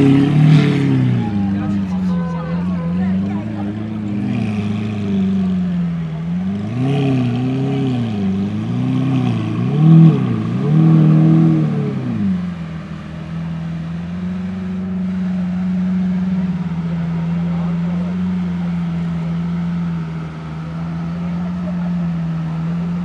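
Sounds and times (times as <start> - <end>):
sports car engine idling and revving: 0.0 - 23.0.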